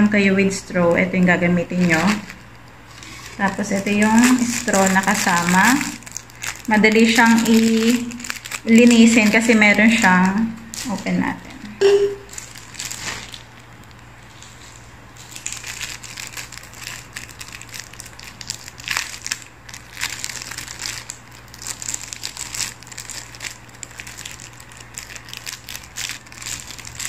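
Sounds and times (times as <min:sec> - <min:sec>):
plastic packaging crinkling: 0:01.3 - 0:27.0.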